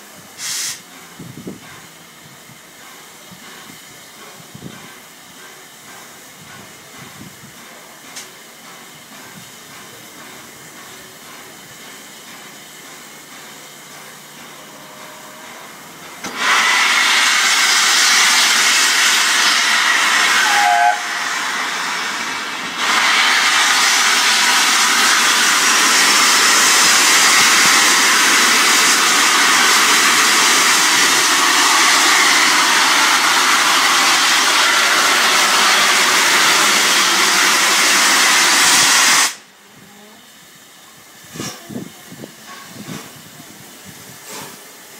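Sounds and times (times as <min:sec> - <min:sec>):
steam locomotive hissing steam: 0:00.0 - 0:44.9.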